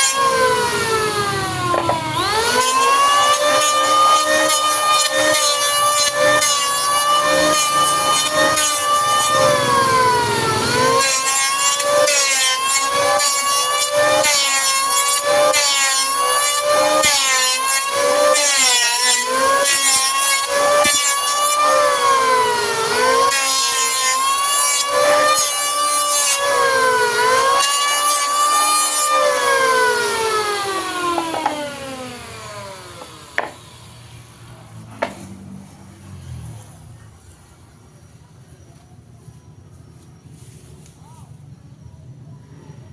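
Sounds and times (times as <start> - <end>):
electric hand planer cutting wood: 0.0 - 35.4.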